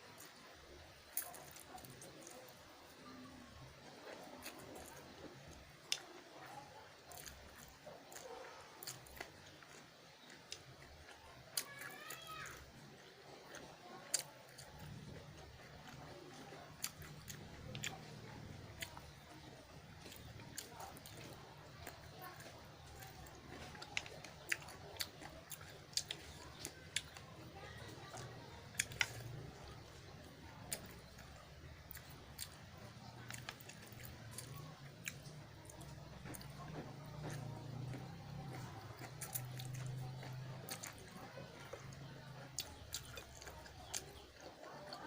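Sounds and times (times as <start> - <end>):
close chewing of noodles: 0.0 - 45.0.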